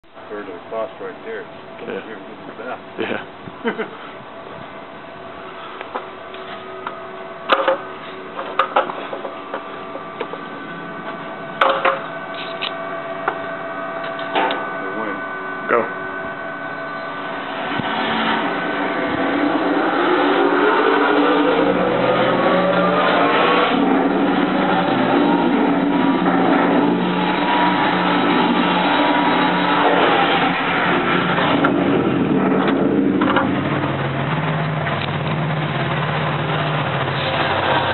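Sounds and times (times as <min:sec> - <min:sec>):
mechanical hum with whining tones: 0:00.0 - 0:37.9.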